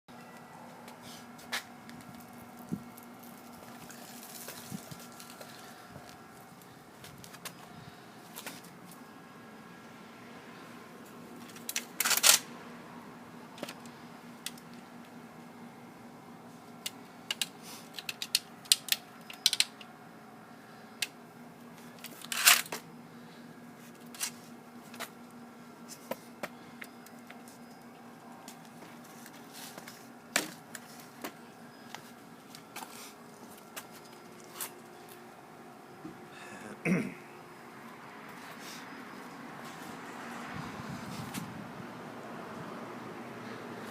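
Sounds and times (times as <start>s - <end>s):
faint steady hum: 0.1s - 43.9s.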